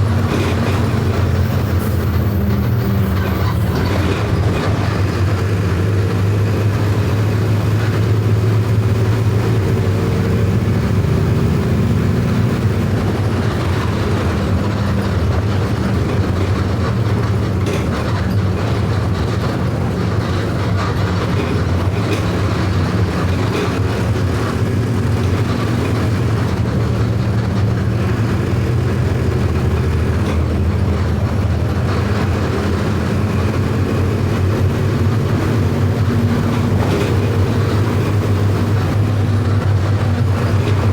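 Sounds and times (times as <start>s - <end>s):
bus diesel engine droning: 0.0s - 40.9s.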